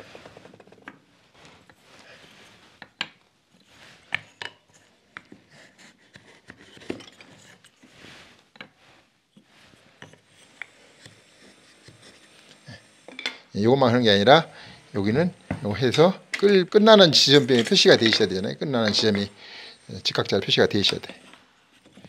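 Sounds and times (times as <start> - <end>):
soft wood rubbing: 0.0 - 22.0.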